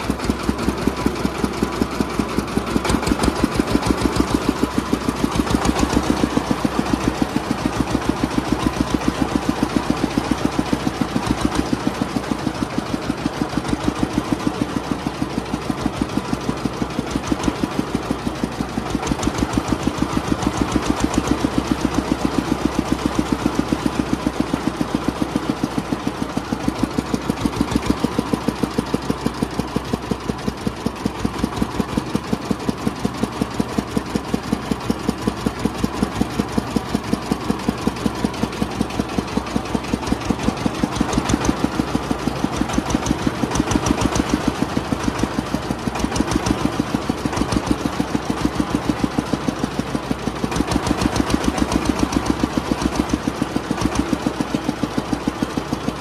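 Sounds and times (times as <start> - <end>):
engine running with pulsing beat: 0.0 - 56.0.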